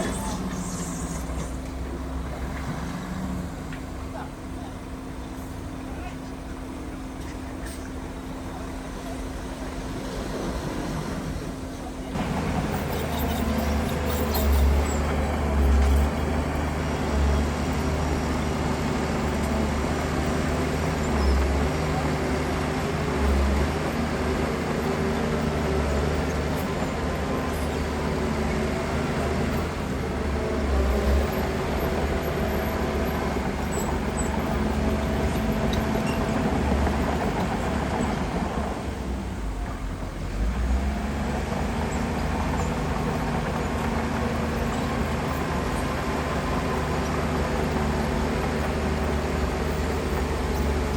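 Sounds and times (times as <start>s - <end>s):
heavy diesel engine rumbling: 0.0s - 50.9s.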